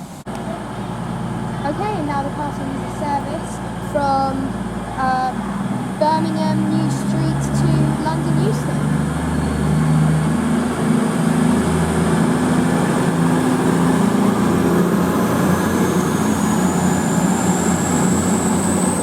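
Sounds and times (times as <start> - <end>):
thin high whine rising: 0.0 - 19.0
train passing: 0.0 - 19.0.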